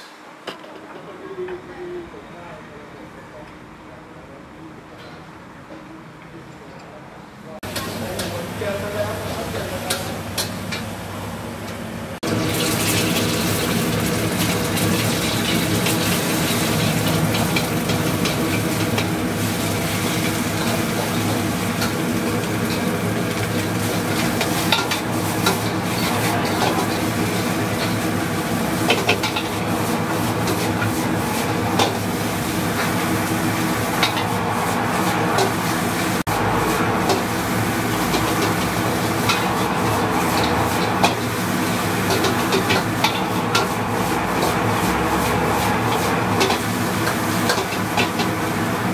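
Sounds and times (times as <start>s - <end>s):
food sizzling in a wok: 7.6s - 10.7s, 12.2s - 48.9s.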